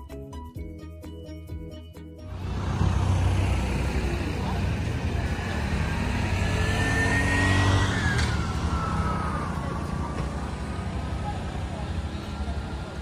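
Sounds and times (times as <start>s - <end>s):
vehicle engine whining past: 2.3s - 13.0s.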